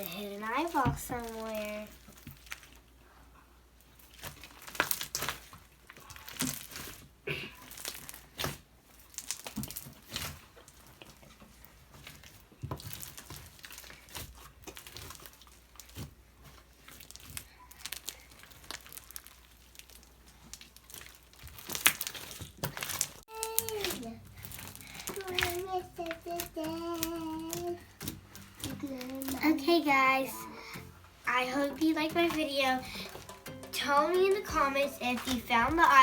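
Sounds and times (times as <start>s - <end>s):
slime crinkling and clicking: 0.0s - 3.0s, 3.8s - 36.0s.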